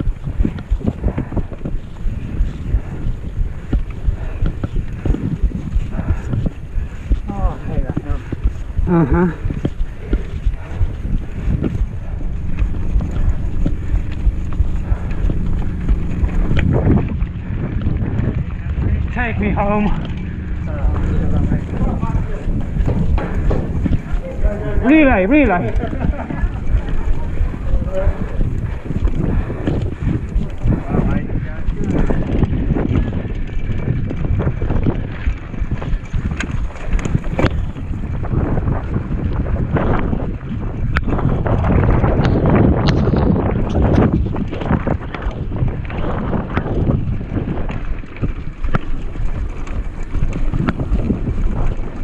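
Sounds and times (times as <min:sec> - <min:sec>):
bike knocking and rattling: 0:00.0 - 0:52.0
bike tyres rumbling: 0:00.0 - 0:52.0
wind on microphone: 0:00.0 - 0:52.0.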